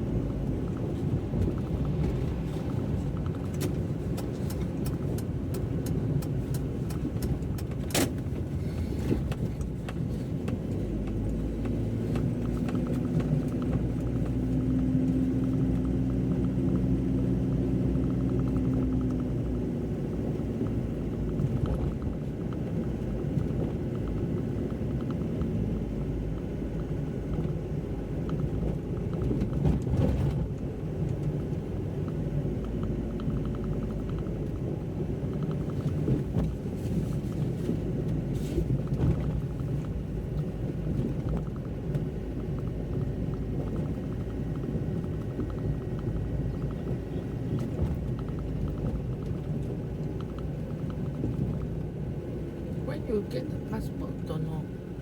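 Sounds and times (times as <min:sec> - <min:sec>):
car driving on wet road: 0:00.0 - 0:55.0.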